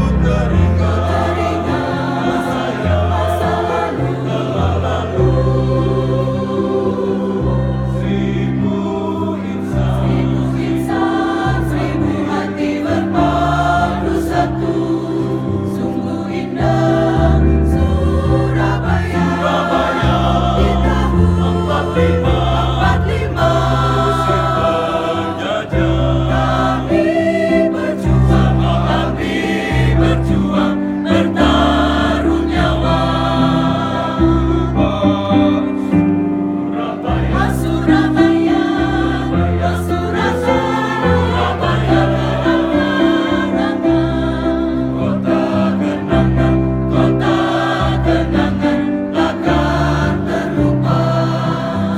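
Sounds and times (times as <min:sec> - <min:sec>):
voices singing together: 0:00.0 - 0:51.9.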